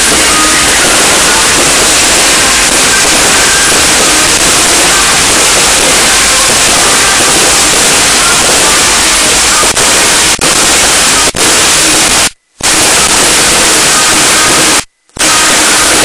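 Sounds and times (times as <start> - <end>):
fireworks: 0.0 - 16.0.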